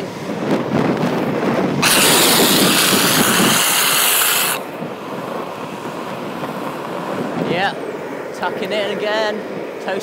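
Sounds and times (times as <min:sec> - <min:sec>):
longboard wheels rolling: 0:00.0 - 0:10.0
longboard wheels sliding on asphalt: 0:00.0 - 0:10.0.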